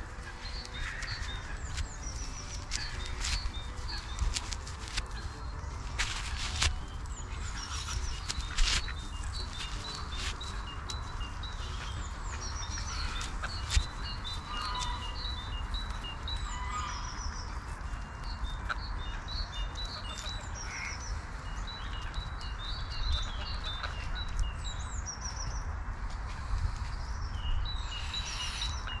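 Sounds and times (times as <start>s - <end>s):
small birds chirping: 0.0s - 29.0s
steady low rumble: 0.0s - 29.0s.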